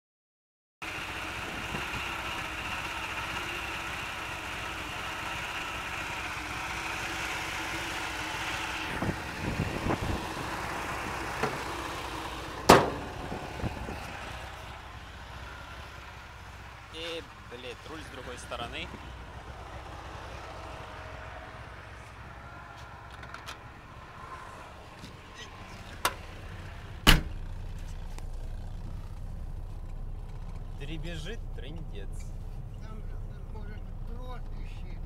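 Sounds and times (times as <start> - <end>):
car engine idling with rattle: 0.8 - 23.8, 24.4 - 35.0
engine knocks: 0.9 - 20.0, 24.9 - 34.8.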